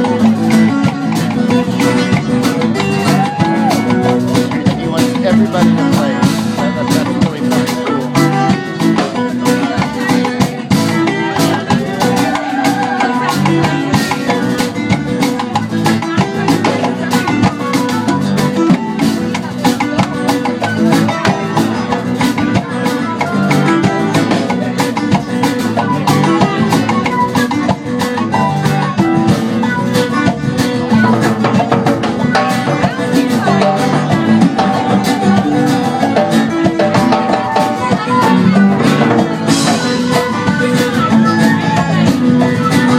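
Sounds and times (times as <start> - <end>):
electric guitar: 0.0 - 42.9
hand drums: 0.0 - 42.9
live band playing latin groove: 0.0 - 42.9.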